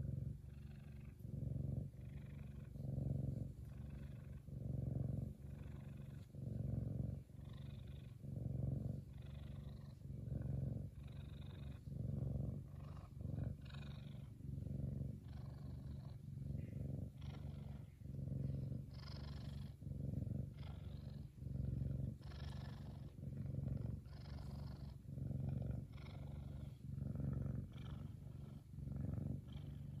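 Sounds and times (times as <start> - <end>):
cat purring loudly: 0.0 - 30.0.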